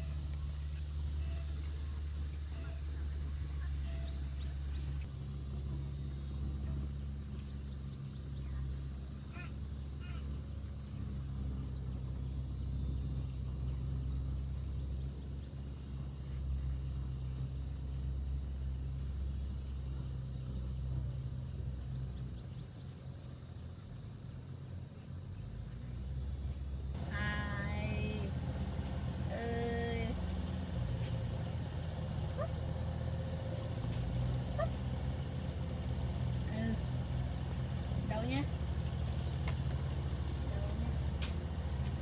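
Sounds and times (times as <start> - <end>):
insects droning: 0.0 - 42.0
steady low hum: 0.0 - 42.0.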